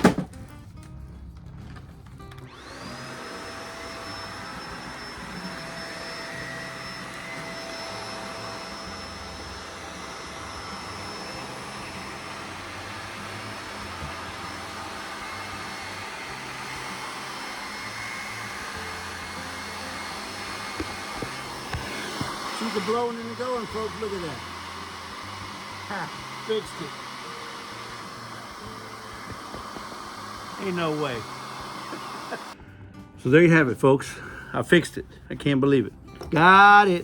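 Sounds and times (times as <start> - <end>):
vacuum cleaner motor whining: 2.2 - 32.6.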